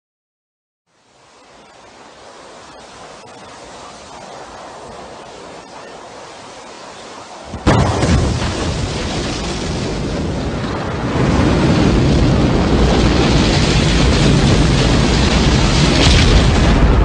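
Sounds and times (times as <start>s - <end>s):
rocket engines rumbling: 1.0s - 17.0s.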